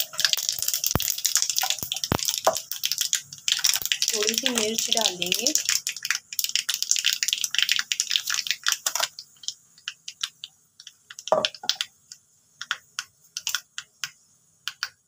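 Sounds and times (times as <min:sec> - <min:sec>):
seeds spluttering in hot oil: 0:00.0 - 0:14.2.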